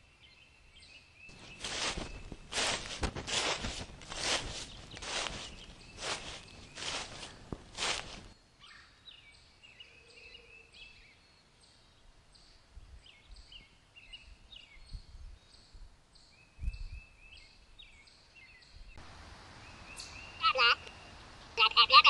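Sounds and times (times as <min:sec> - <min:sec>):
birds chirping: 0:00.1 - 0:12.1, 0:13.1 - 0:22.0.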